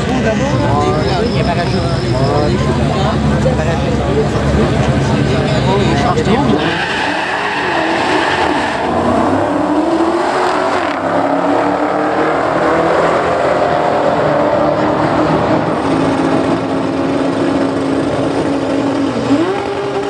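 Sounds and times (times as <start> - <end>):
car engines at full throttle: 0.0 - 20.0.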